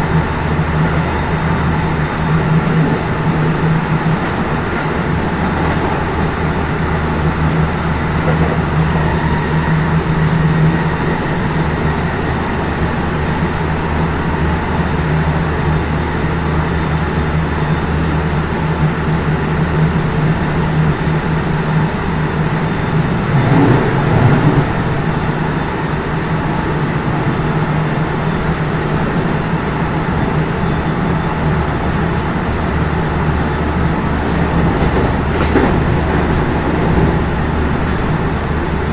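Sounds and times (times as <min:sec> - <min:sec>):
train motors humming: 0:00.0 - 0:38.9.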